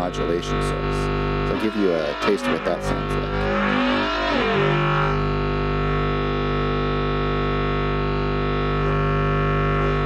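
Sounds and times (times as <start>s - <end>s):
bright synth drone: 0.0s - 10.0s.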